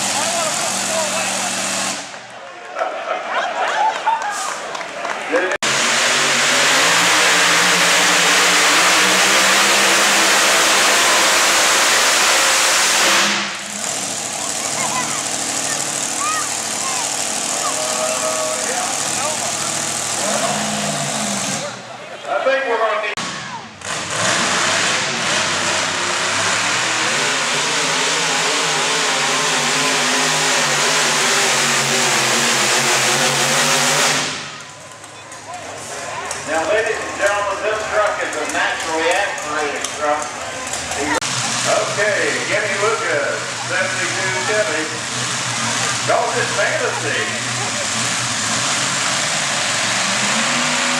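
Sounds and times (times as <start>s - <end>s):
truck engine revving hard: 0.0s - 2.3s, 5.5s - 22.0s, 23.1s - 35.0s, 35.7s - 50.9s.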